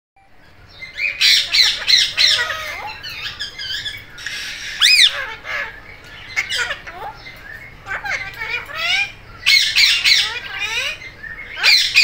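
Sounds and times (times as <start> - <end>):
parakeets chattering: 0.5 - 12.0
parakeets squawking: 0.7 - 12.0.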